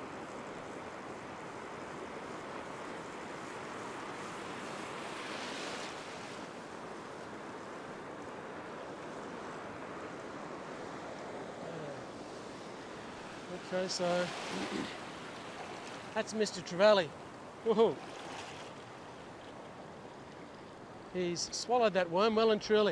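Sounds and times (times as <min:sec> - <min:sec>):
ocean surf breaking: 0:00.0 - 0:21.5.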